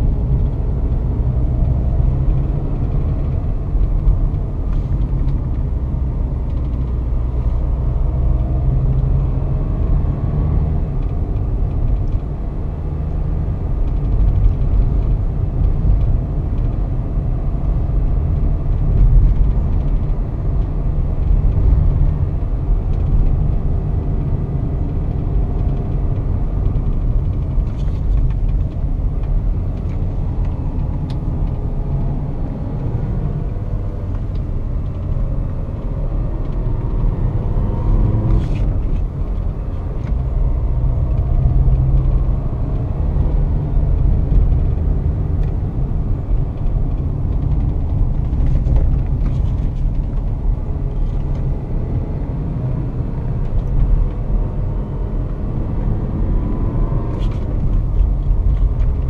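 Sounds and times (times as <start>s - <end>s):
road rumble: 0.0s - 59.0s.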